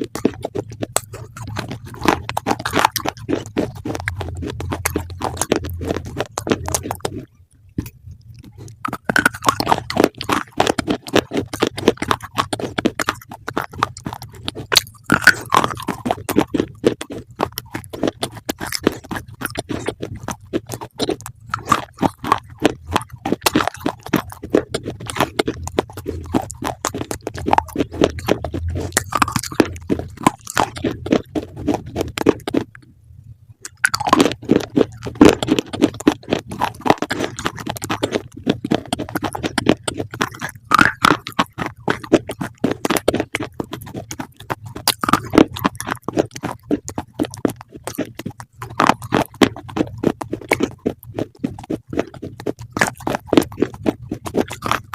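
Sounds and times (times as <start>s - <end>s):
crunchy chewing: 0.0s - 32.9s, 33.5s - 54.9s.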